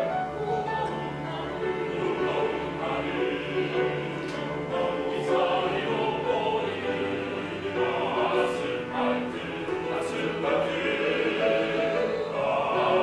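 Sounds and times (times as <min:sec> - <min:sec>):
choir singing: 0:00.0 - 0:13.0
piano accompaniment: 0:00.0 - 0:13.0.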